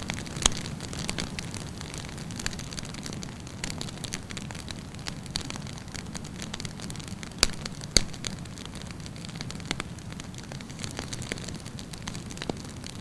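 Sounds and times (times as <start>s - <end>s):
campfire rumble and crackles: 0.0s - 13.0s
loud fire pops: 0.0s - 13.0s.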